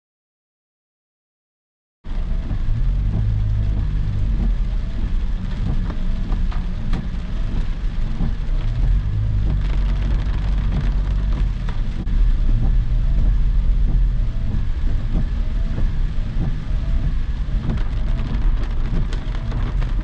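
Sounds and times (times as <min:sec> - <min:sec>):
deep low rumble: 0:02.1 - 0:20.0
heavy rain falling: 0:02.1 - 0:20.0
sharp raindrop impacts: 0:02.1 - 0:20.0.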